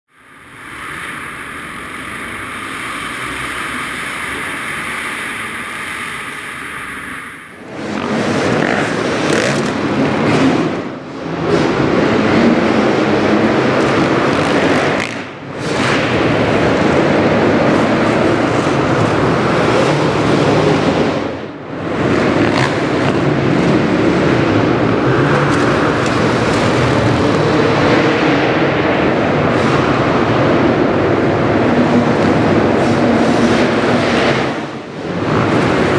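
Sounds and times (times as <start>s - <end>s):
motocross motorcycle engine: 0.2s - 35.9s.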